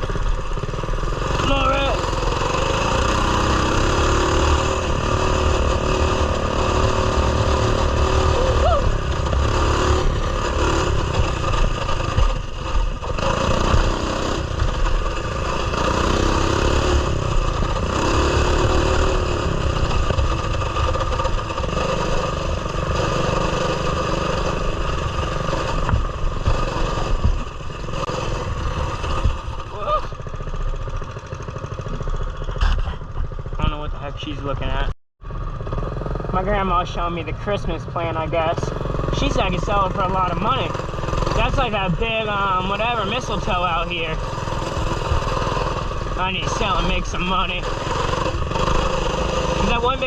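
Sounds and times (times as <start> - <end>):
small motorbike engine running: 0.0 - 34.0, 35.2 - 50.0.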